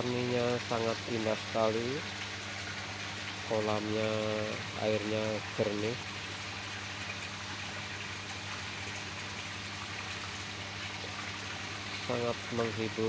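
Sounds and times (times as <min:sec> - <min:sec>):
pond water rushing and bubbling: 0:00.0 - 0:13.0.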